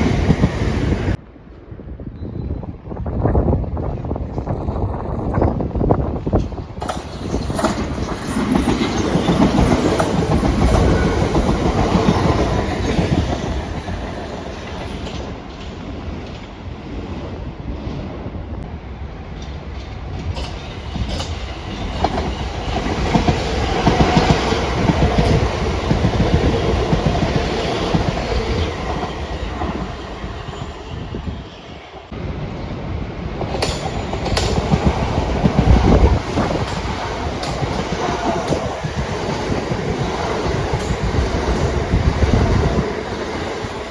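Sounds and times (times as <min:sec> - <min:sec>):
train passing: 0:00.0 - 0:01.4, 0:04.2 - 0:43.9.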